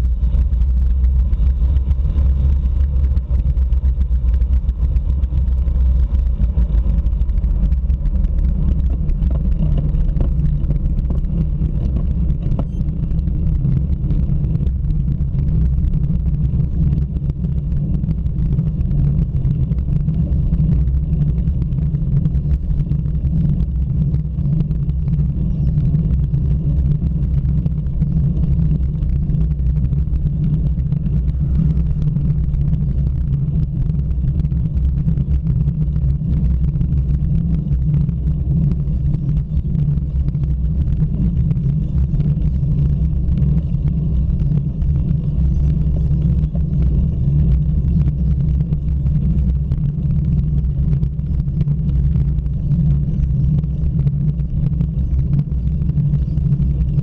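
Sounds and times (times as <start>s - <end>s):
road vibration rumble: 0.0s - 57.0s
wind buffeting: 0.0s - 57.0s.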